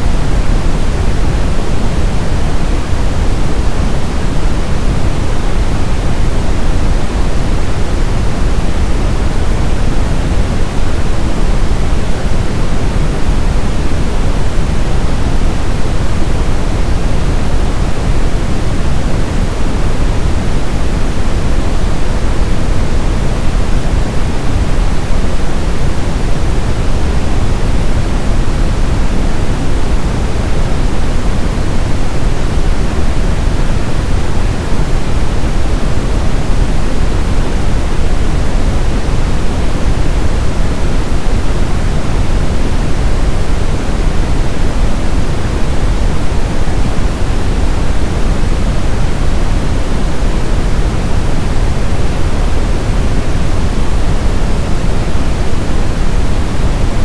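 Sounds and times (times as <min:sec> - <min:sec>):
synthesized brown noise: 0:00.0 - 0:57.0.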